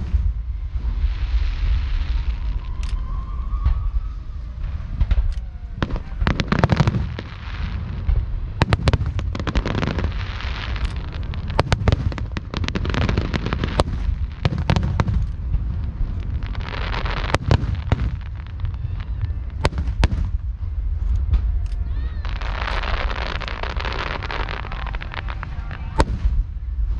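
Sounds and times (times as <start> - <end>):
fireworks bangs and cracks: 0.0 - 2.8, 3.5 - 26.9
fireworks crackling hiss: 0.0 - 26.9
low rumble: 0.0 - 26.9.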